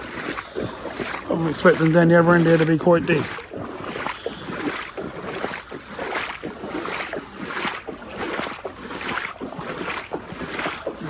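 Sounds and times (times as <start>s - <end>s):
wading through floodwater: 0.0s - 11.0s.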